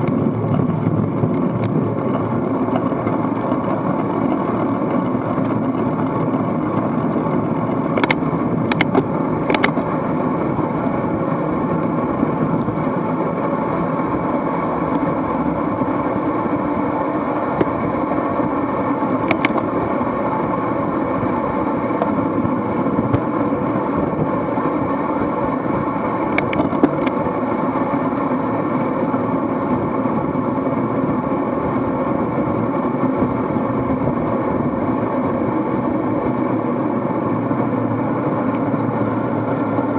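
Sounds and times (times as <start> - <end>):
bicycle tyre noise: 0.0 - 39.9
wind rushing on microphone: 0.0 - 39.9.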